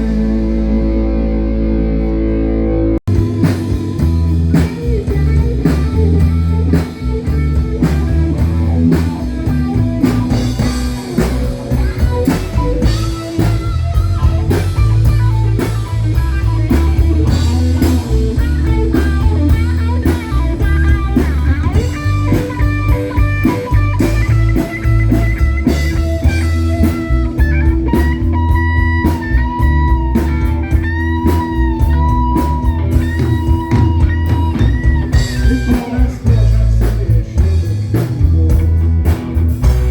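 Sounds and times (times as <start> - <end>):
bending lead guitar line: 0.0 - 39.9
rock band playing: 0.0 - 39.9.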